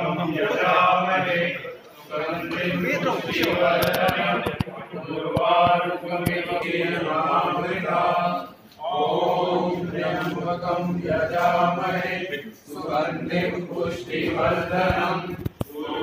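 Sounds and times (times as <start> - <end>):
men chanting a prayer: 0.0 - 16.0.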